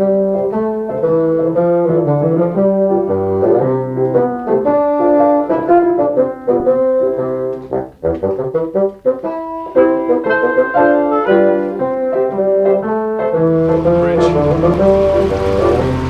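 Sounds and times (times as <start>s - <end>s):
slow music of held notes: 0.0s - 16.0s.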